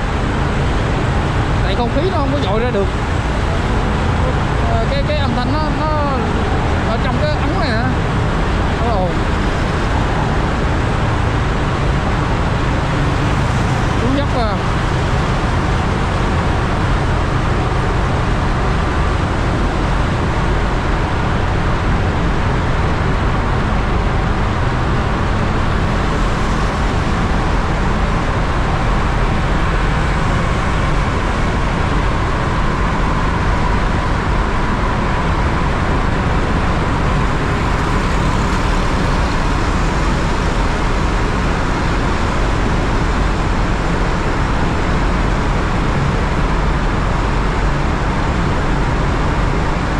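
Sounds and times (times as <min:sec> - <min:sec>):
traffic roar in tunnel: 0:00.0 - 0:49.9.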